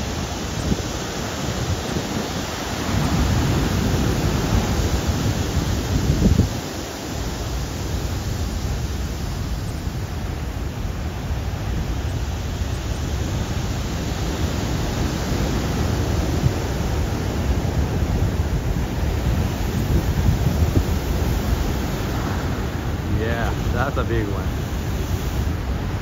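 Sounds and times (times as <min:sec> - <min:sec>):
ocean waves breaking: 0:00.0 - 0:26.0.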